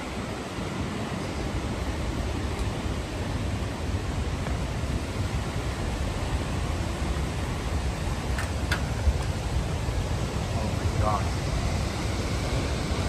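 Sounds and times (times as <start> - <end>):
waterfall and river roar: 0.0 - 13.0.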